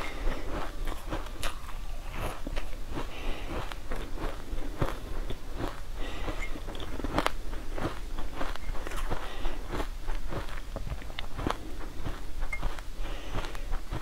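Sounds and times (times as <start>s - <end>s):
chewing crunchy sweet: 0.0s - 14.0s
fingers crunching dry powder: 0.0s - 14.0s.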